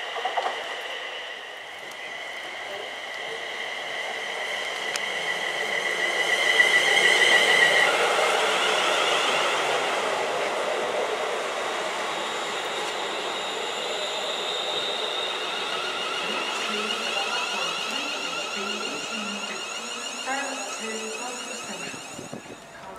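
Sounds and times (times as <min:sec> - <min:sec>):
electric train motor whine: 0:00.0 - 0:22.9
train wheels rumbling: 0:00.0 - 0:22.9.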